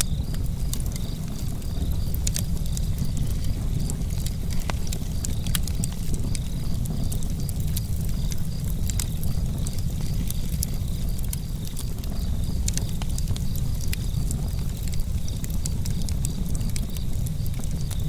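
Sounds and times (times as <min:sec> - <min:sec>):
campfire rumble: 0:00.0 - 0:18.0
fire crackles and pops: 0:00.0 - 0:18.0.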